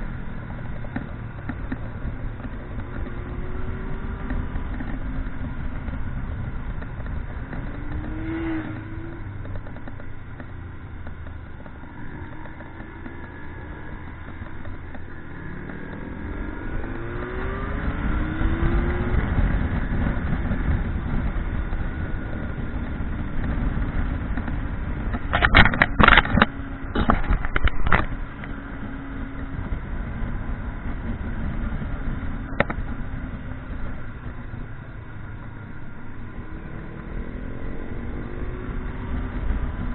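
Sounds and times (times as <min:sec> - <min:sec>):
motorcycle engine accelerating: 0:00.0 - 0:39.9
wind and road rumble: 0:00.0 - 0:39.9.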